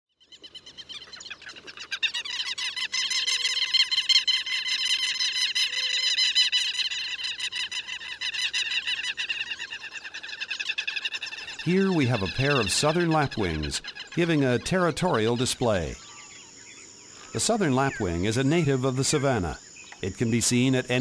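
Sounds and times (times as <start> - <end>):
lapwings calling: 0.2 - 21.0.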